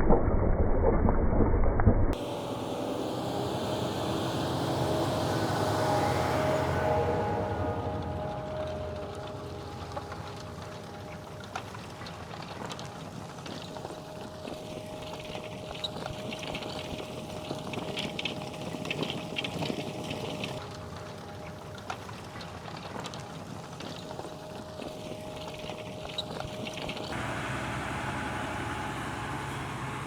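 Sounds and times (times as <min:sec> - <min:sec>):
tractor engine running under load: 0:02.2 - 0:30.0
light crackling: 0:05.9 - 0:30.0.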